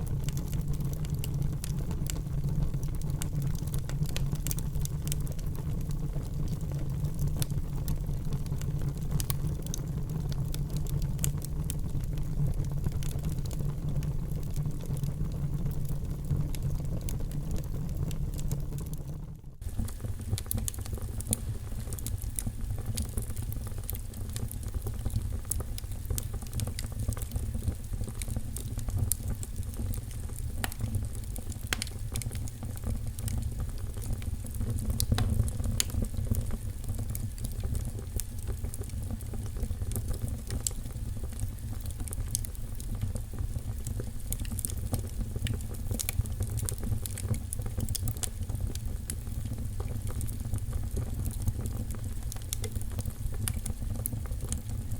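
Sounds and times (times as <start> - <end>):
fire crackling and popping: 0.0 - 54.9
low fire rumble: 0.0 - 54.9.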